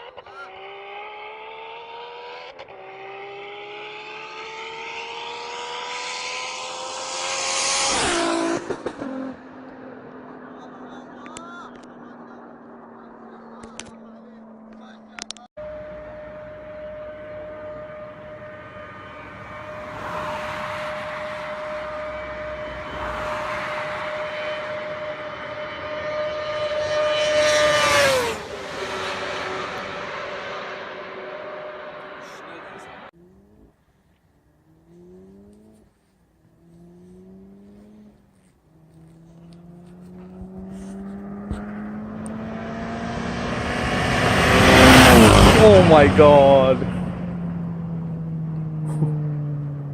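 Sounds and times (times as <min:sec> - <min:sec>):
fast vehicle approaching: 0:00.0 - 0:49.9.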